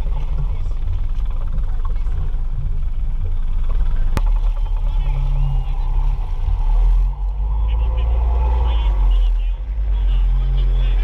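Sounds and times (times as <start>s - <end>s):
outboard motor running: 0.0s - 11.0s
wind and water rumble on microphone: 0.0s - 11.0s.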